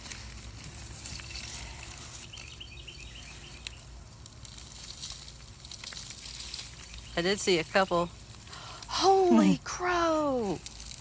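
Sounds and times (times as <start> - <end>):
soil digging by hand: 0.0 - 11.0.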